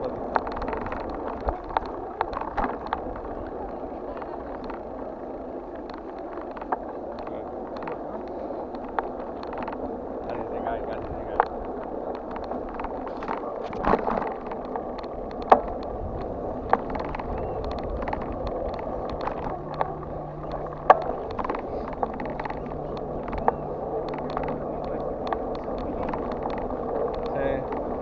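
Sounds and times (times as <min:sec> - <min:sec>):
bicycle tyres rumbling: 0:00.0 - 0:28.0
bike rattling over bumps: 0:00.0 - 0:28.0
wind: 0:00.0 - 0:28.0.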